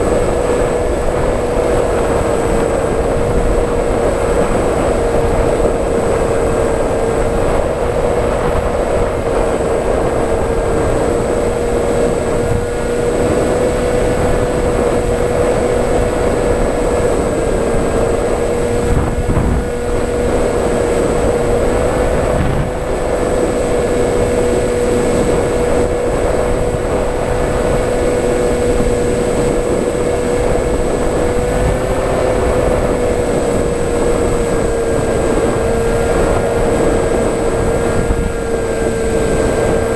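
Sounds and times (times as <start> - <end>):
model aircraft motor whine: 0.0 - 39.9
rushing noise: 0.0 - 39.9.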